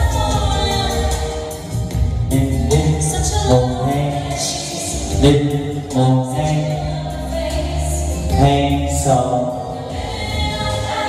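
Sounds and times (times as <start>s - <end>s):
choral music over loudspeakers: 0.0s - 11.0s.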